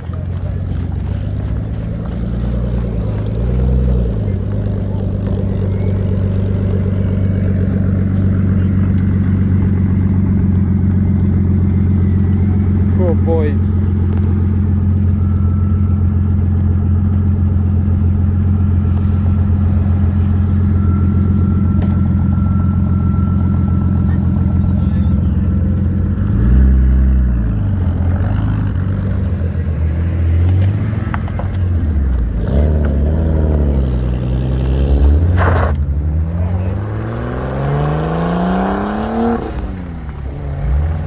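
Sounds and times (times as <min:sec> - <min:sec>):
car engines idling: 0:00.0 - 0:41.0
car engines revving: 0:00.0 - 0:41.0.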